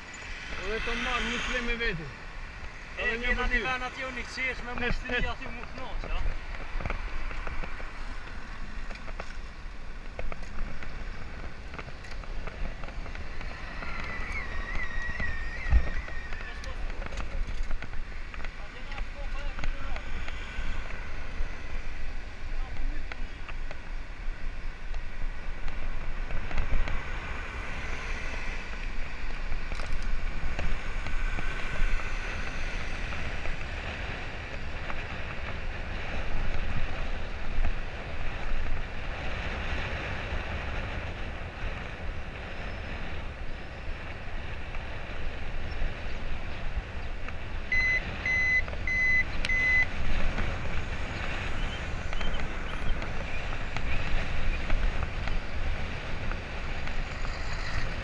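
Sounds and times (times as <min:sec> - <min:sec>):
street traffic: 0:00.0 - 0:58.0
wind buffeting microphone: 0:00.0 - 0:58.0.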